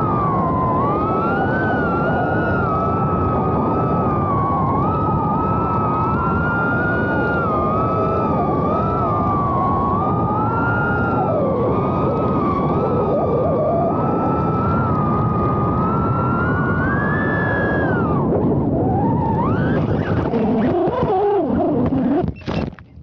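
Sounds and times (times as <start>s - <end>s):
quadcopter motors whining: 0.0s - 22.4s
steady rush of noise: 0.0s - 22.4s.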